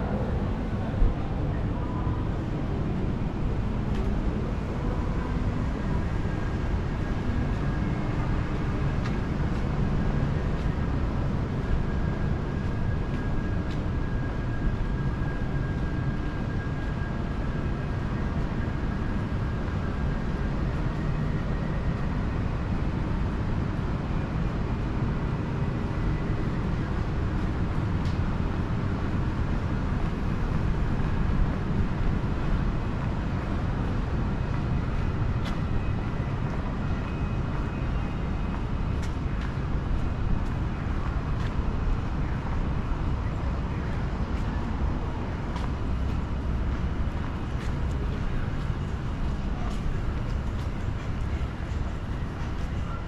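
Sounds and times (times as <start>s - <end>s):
city street rumble: 0.0s - 53.0s.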